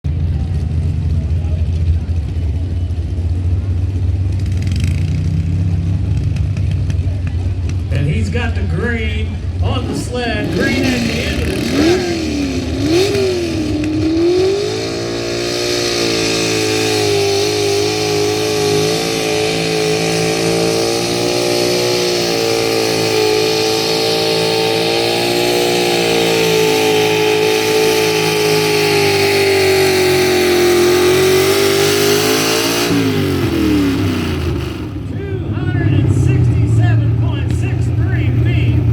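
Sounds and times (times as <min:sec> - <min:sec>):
truck engine revving under load: 0:00.0 - 0:38.9.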